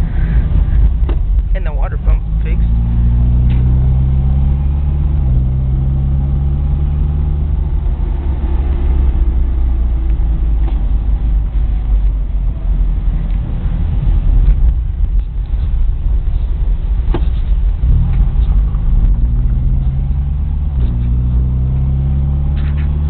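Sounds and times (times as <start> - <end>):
car engine from inside cabin: 0.0 - 23.0
road noise: 0.0 - 23.0.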